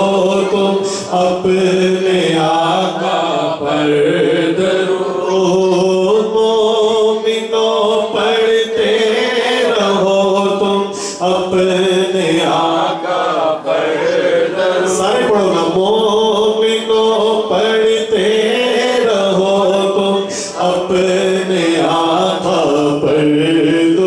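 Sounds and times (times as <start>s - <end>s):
man chanting devotional song: 0.0s - 24.0s.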